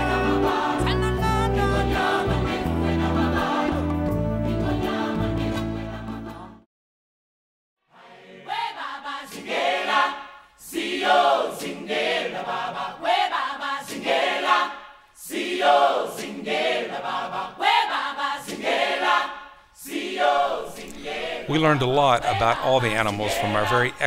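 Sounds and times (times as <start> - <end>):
choir singing: 0.0 - 6.7, 7.9 - 24.0.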